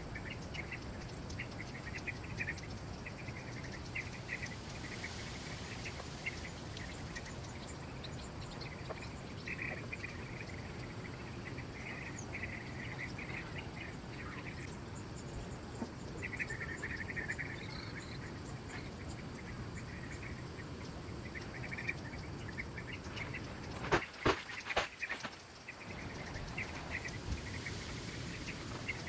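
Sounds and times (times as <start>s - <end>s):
insects chirring: 0.0s - 29.0s
low forest hum: 0.0s - 29.0s.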